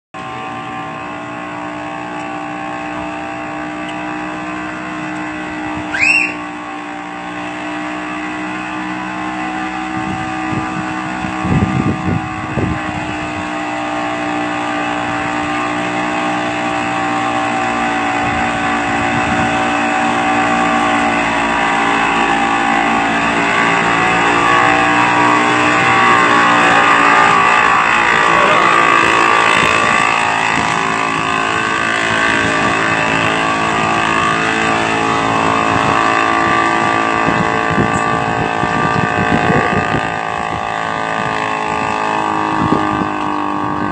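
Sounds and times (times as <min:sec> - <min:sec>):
small aircraft engine: 0:00.2 - 0:43.9
rising squeal: 0:00.4 - 0:39.0.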